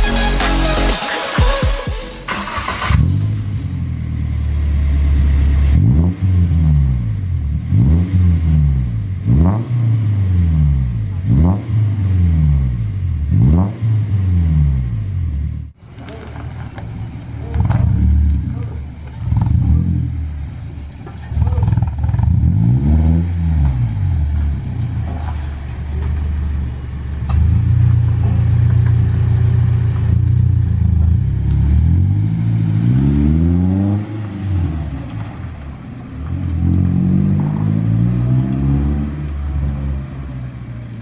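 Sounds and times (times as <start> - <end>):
pickup engine revving: 2.0 - 41.0.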